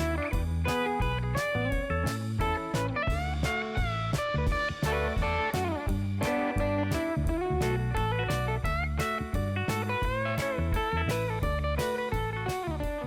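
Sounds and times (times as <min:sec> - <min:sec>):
blues electric guitar with beat: 0:00.0 - 0:13.0.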